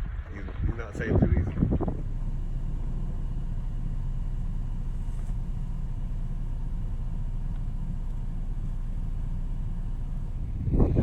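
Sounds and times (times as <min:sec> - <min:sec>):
truck engine low rumble: 0:00.0 - 0:11.0.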